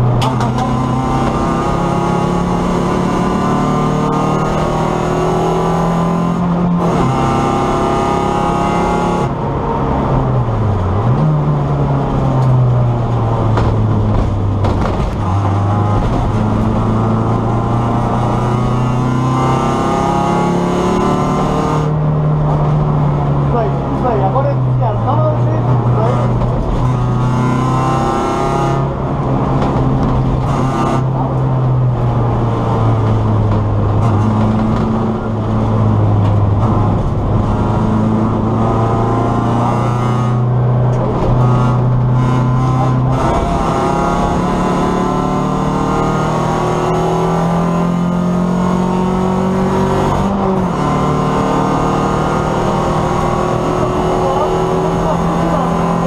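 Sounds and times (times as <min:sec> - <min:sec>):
race car engine revving: 0:00.0 - 0:56.0
road and wind noise: 0:00.0 - 0:56.0.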